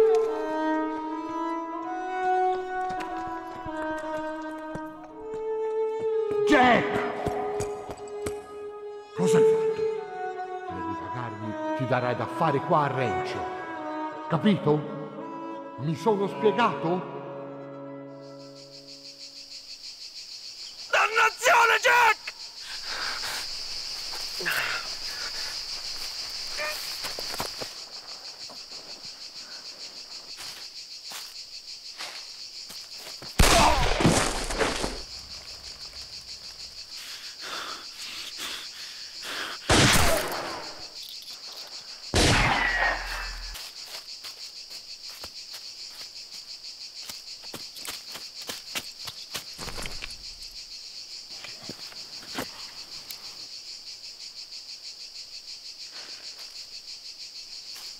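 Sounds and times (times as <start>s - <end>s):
insects buzzing: 0.0s - 57.9s.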